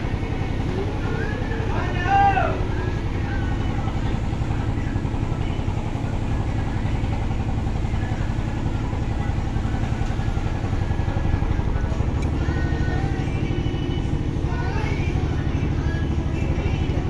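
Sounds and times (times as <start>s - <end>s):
ship engine throbbing: 0.0s - 17.0s.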